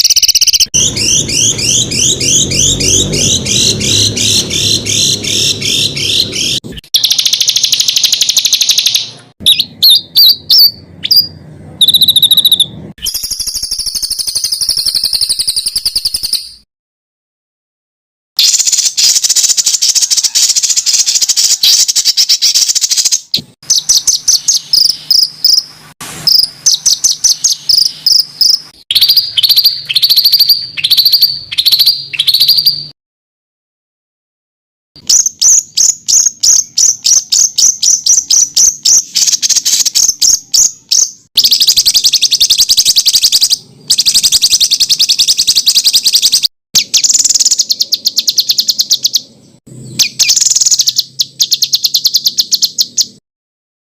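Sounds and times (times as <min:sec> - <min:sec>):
songbirds singing rapid phrases: 0:00.0 - 0:16.6, 0:18.4 - 0:33.0, 0:35.0 - 0:53.2.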